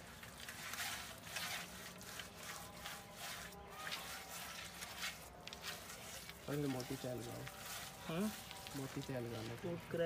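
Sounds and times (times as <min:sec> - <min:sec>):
hands smearing wet mud: 0:00.0 - 0:10.0.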